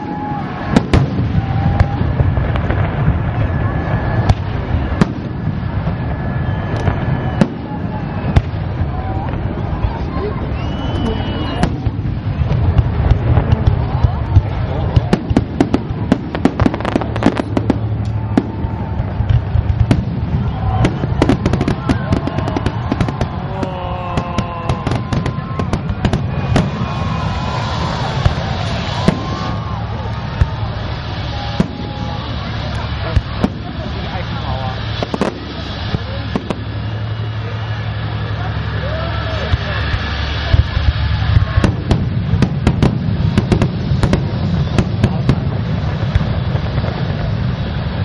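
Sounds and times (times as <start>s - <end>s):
fireworks bangs and crackling: 0.0s - 48.0s
steady low rumble: 0.0s - 48.0s.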